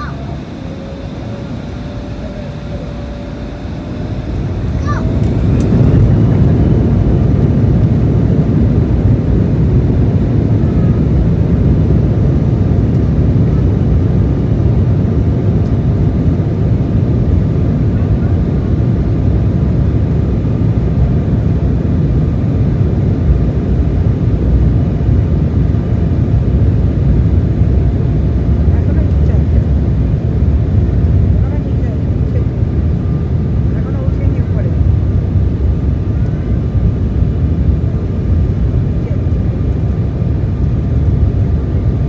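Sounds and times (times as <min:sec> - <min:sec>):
faint engine whine: 0:00.0 - 0:42.0
jet engine rumble in cabin: 0:00.0 - 0:42.0.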